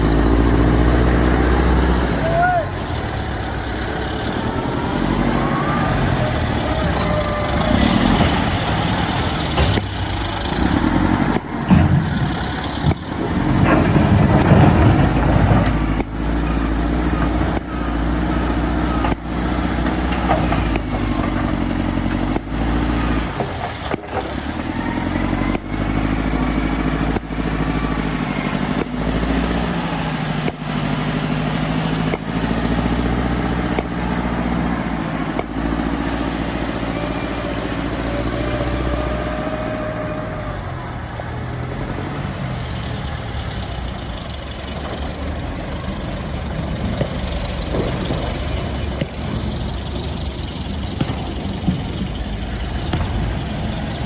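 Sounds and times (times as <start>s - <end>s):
heavy diesel machinery engine: 0.0s - 54.0s.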